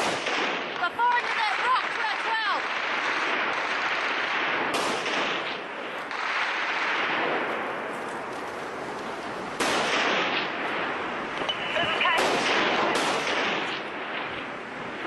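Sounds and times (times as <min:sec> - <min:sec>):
gunfire cracks: 0:00.0 - 0:07.8, 0:09.6 - 0:14.5
steady rushing noise: 0:00.0 - 0:15.0.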